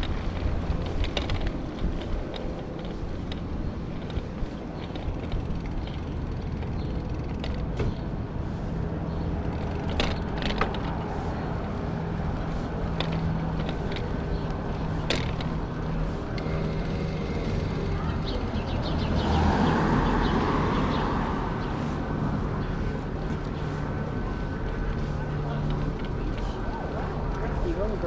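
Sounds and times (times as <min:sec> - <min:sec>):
bike mechanism clicks and creaks: 0:00.0 - 0:27.7
bicycle rolling rumble: 0:00.0 - 0:28.0.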